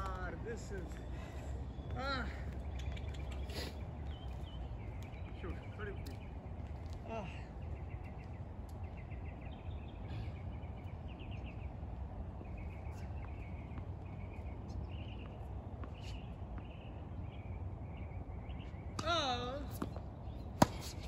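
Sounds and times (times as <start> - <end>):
small birds trilling: 0.1 - 21.0.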